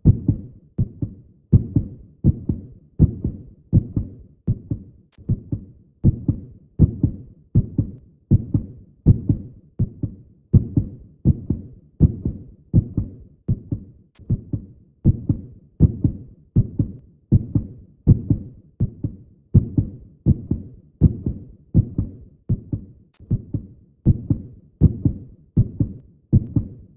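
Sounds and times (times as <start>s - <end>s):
heartbeat-like low thumps: 0.0s - 26.9s.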